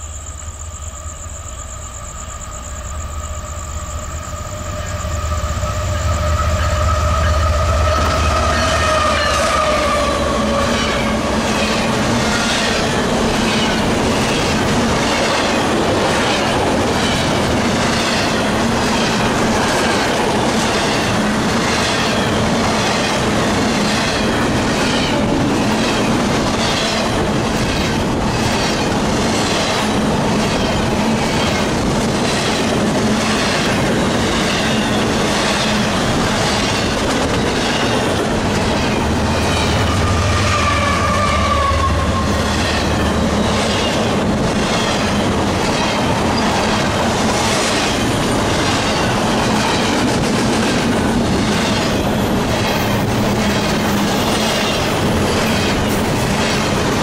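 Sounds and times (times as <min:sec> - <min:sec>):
freight train rolling past: 0:00.0 - 0:57.0
wheel-on-rail noise: 0:02.2 - 0:57.0
clickety-clack of wheels: 0:07.9 - 0:40.6, 0:42.4 - 0:57.0.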